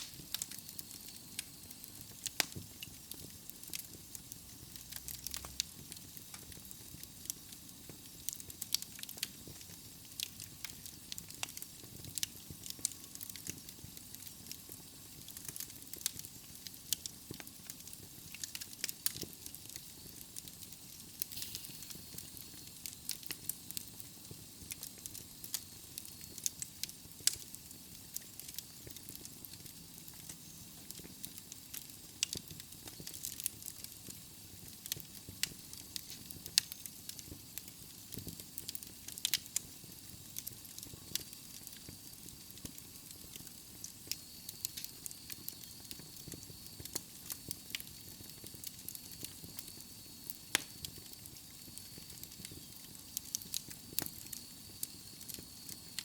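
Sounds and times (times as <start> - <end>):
soft fire hiss: 0.0 - 56.0
wood logs crackling and popping: 0.0 - 56.0.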